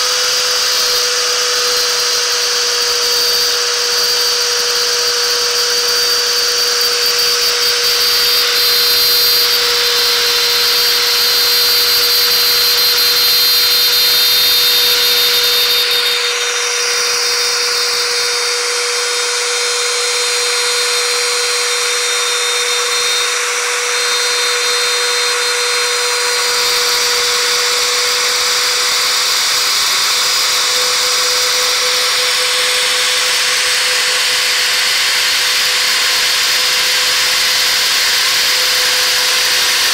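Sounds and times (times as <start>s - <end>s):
end mill cutting plastic: 0.0s - 39.9s
router spindle whine: 0.0s - 39.9s.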